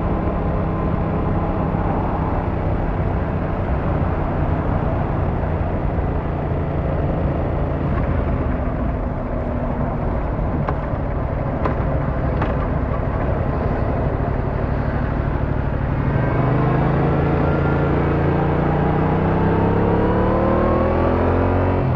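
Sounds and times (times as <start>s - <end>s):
motorcycle engine accelerating: 0.0s - 21.9s
road and wind noise: 0.0s - 21.9s.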